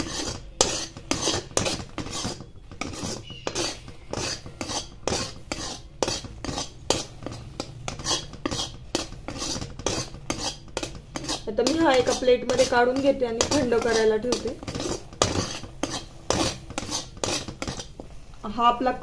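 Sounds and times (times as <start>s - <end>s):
metal spoon scraping a pan: 0.0s - 19.0s.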